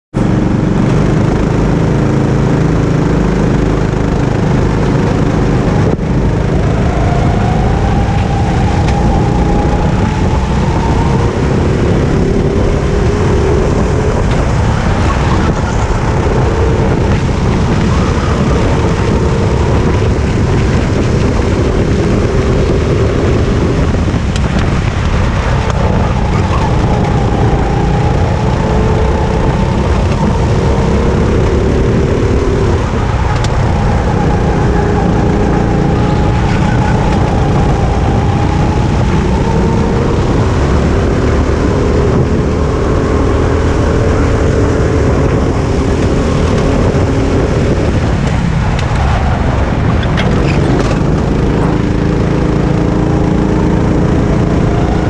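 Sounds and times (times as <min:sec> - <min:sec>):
go-kart engine running: 0:00.1 - 0:55.0
other kart engines: 0:00.1 - 0:55.0.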